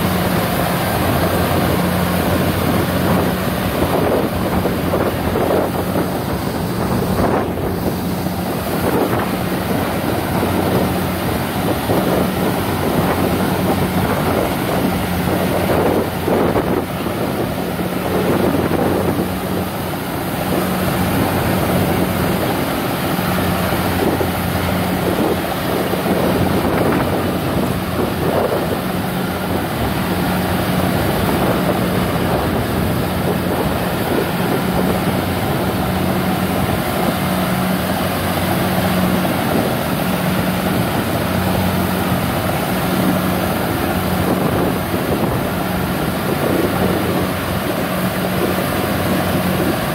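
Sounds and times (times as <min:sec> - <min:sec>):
combine harvester running: 0:00.0 - 0:49.9.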